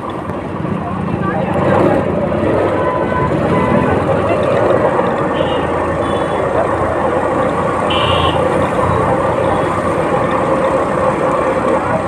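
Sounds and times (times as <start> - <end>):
motorbike engine hum: 0.0 - 12.0
road and wind noise: 0.0 - 12.0.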